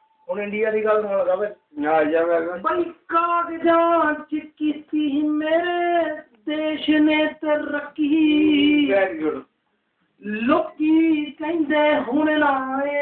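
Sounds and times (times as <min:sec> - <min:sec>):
person singing unaccompanied: 0:00.0 - 0:09.5, 0:10.2 - 0:13.0.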